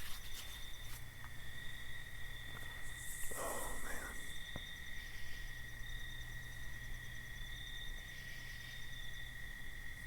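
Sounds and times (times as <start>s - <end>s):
faint low hum: 0.0s - 9.2s
crickets trilling: 0.0s - 10.0s
pulsing cricket chirp: 0.0s - 10.0s.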